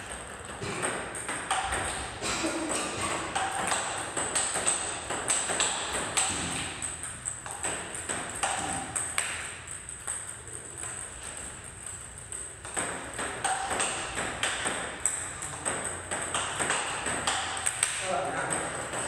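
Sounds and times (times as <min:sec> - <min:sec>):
table tennis balls clicking: 0:00.0 - 0:19.0.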